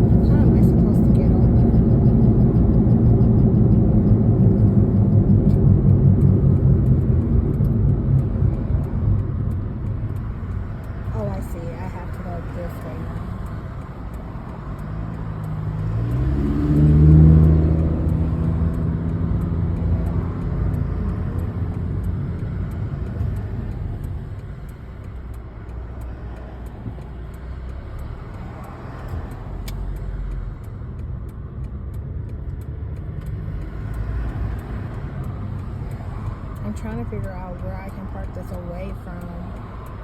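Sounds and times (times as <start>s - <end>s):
car engine accelerating: 0.0s - 40.0s
road noise inside car: 0.0s - 40.0s.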